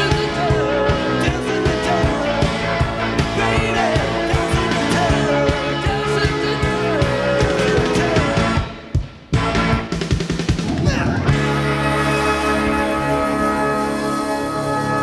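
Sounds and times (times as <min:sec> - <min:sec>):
live rock band music: 0:00.0 - 0:15.0.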